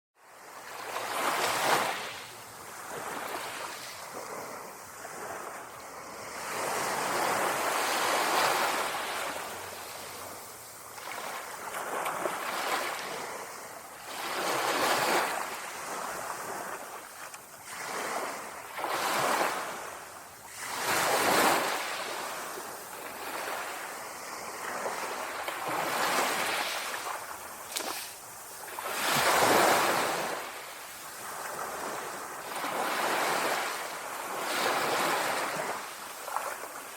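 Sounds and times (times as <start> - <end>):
small waves lapping on shore: 0.2 - 36.9.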